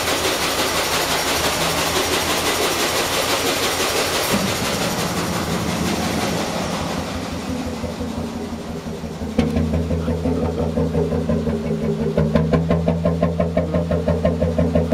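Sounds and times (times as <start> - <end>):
engine exhaust beating: 0.0 - 14.9.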